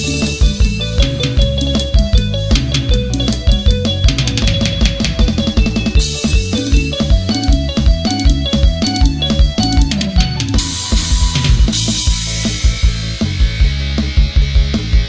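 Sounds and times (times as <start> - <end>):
bass and guitar: 0.0 - 15.0
drum kit beat: 0.0 - 15.0.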